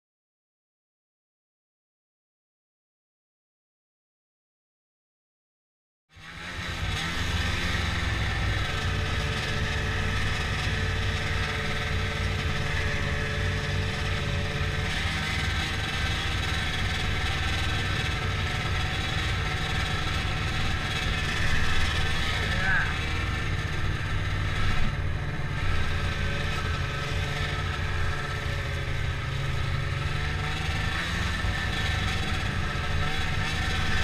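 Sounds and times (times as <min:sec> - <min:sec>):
snowmobile engine and track running: 0:06.1 - 0:34.0.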